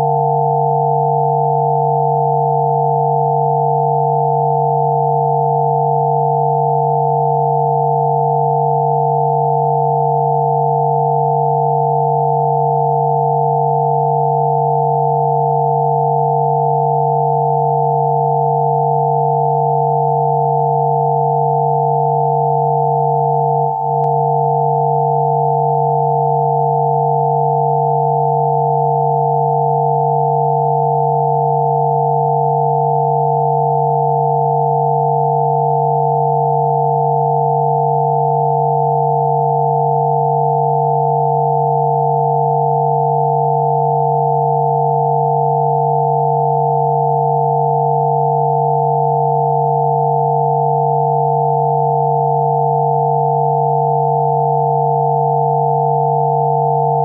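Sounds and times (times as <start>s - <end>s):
steady sine tone drone: 0.0s - 57.0s.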